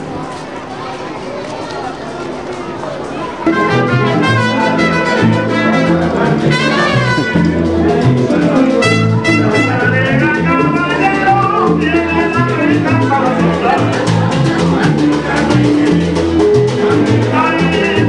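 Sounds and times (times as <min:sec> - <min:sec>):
salsa music: 0:03.4 - 0:18.0.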